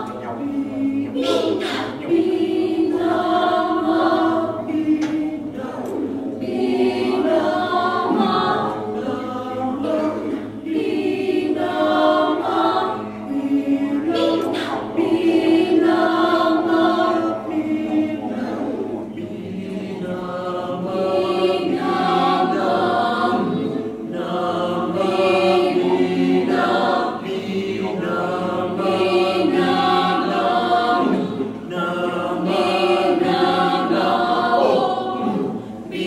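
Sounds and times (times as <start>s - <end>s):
mixed choir singing a cappella: 0.0s - 36.0s.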